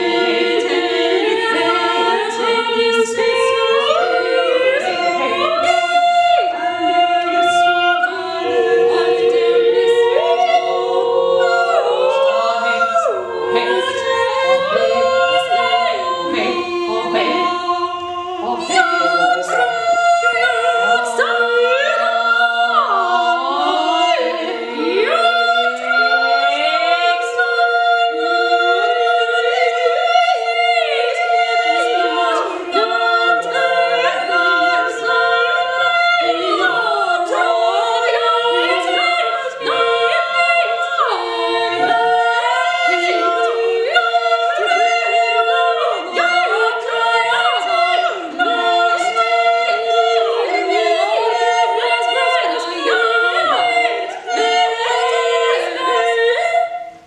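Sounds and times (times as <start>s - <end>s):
women singing a cappella: 0.0s - 57.0s.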